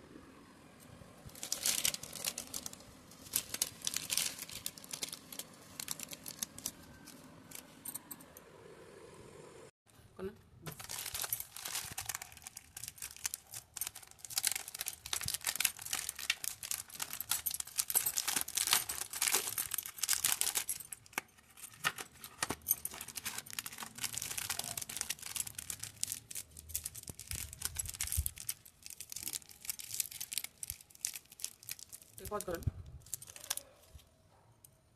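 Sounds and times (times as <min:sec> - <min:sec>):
plastic wrapper crinkling and tearing: 0:01.3 - 0:07.7, 0:10.6 - 0:34.0.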